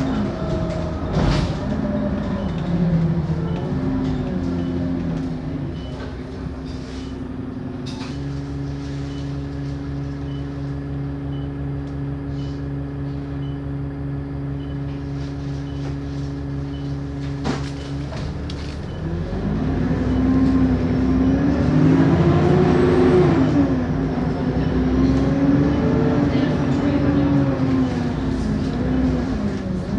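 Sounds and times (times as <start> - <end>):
bus diesel engine: 0.0 - 29.9.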